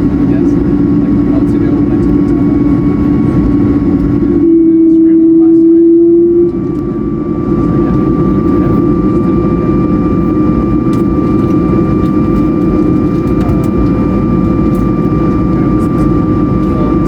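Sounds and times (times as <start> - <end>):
jet engines low rumble: 0.0 - 17.0
thin steady engine whine: 0.0 - 17.0.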